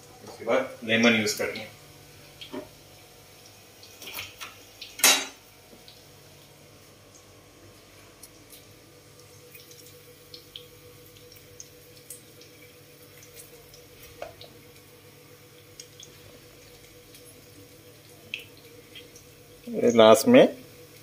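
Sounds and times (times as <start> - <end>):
juice drips and small ticks: 1.0 - 21.0.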